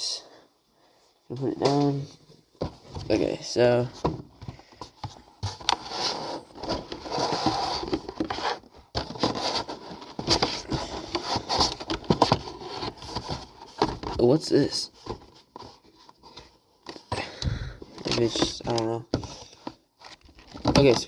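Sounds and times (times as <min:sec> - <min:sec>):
cardboard scraping and rustling: 0:01.6 - 0:17.1, 0:17.9 - 0:21.0.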